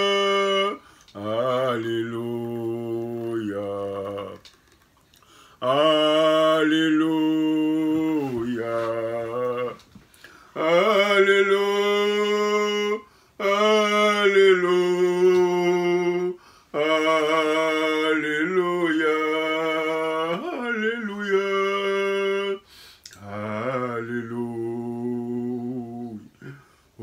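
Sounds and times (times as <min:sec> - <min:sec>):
man singing wordless melody: 0:00.0 - 0:04.6, 0:05.2 - 0:27.0.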